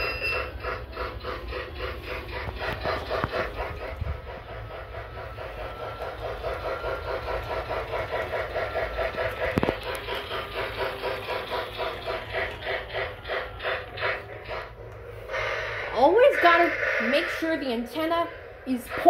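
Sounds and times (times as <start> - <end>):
toy train running on track: 0.0 - 19.0.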